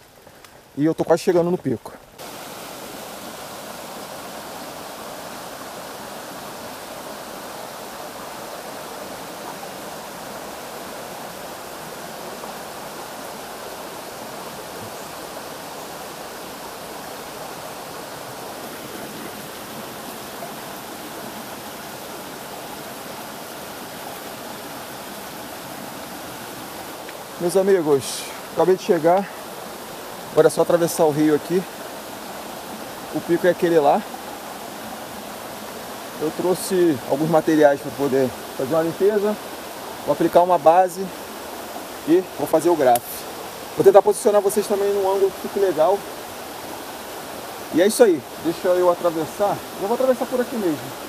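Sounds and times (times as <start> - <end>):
river rushing over stones: 0.0 - 51.0.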